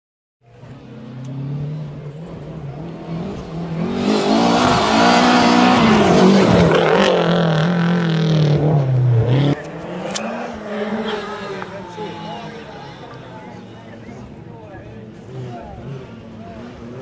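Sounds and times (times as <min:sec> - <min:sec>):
rally car engine revving: 0:00.6 - 0:17.0.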